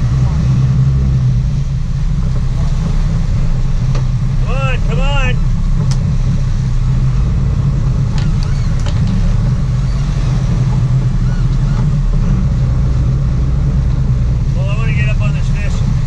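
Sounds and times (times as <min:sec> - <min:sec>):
boat engines droning: 0:00.0 - 0:16.0
wash of boat wake: 0:00.0 - 0:16.0.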